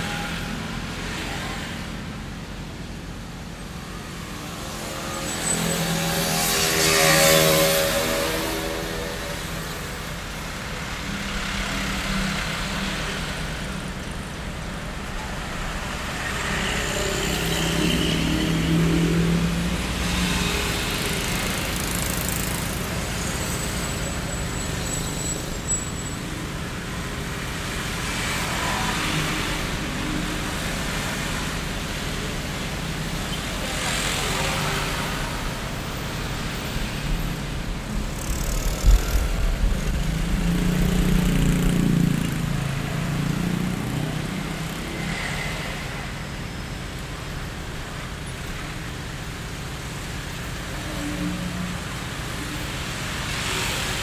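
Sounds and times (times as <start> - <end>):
road traffic rumble: 0.0 - 54.0
cars passing: 3.5 - 54.0.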